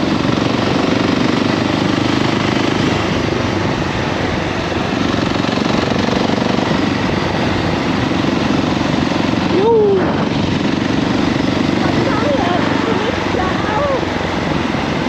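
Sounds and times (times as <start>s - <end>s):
wind rush: 0.0s - 15.0s.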